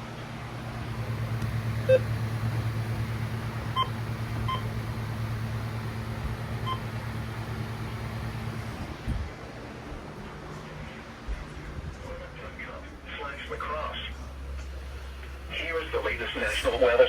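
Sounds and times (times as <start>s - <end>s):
low radio hum: 0.4s - 17.0s.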